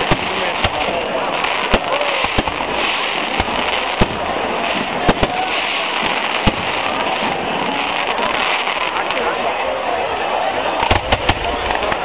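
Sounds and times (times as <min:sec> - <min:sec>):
fireworks bursting bangs: 0:00.0 - 0:09.6, 0:10.7 - 0:12.0.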